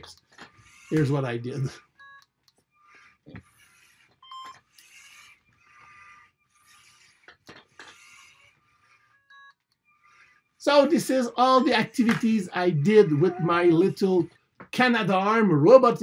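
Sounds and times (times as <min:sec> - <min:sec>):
servo motors whirring: 0:00.0 - 0:14.5.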